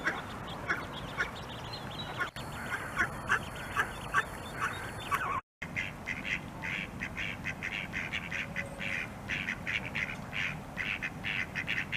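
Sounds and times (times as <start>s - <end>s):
duck quacking: 2.1s - 11.9s.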